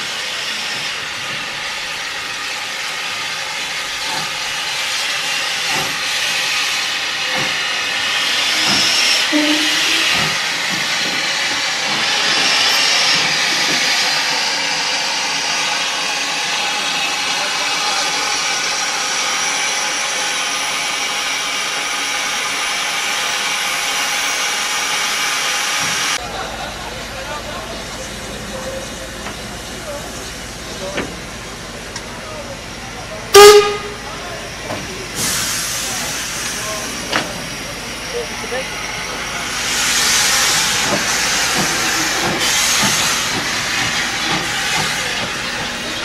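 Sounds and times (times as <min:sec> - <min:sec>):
steam locomotive hissing steam: 0:00.0 - 0:46.0.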